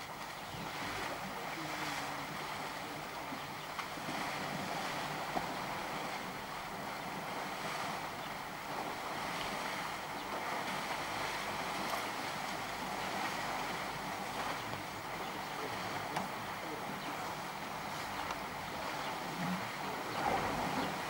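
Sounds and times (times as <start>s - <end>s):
elephants splashing in water: 0.0s - 21.0s.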